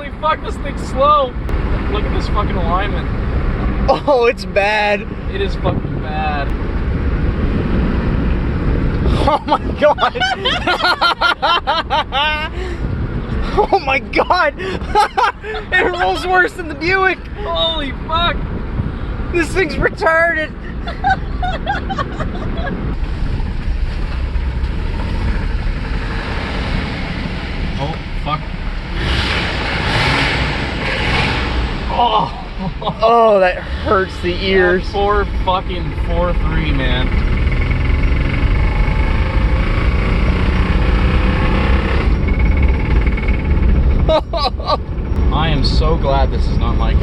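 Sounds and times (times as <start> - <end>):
car engine running hard: 0.0 - 47.0
road and wind noise: 0.0 - 47.0.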